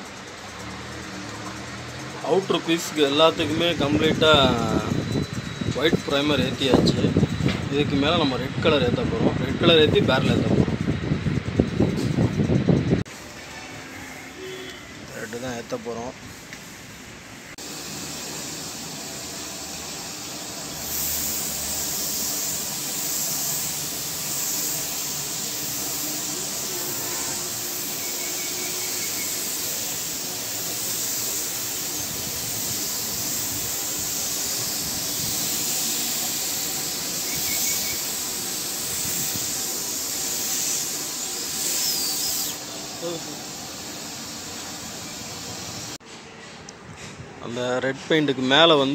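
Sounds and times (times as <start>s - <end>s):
spray gun hissing: 0.0s - 10.4s, 13.1s - 46.0s.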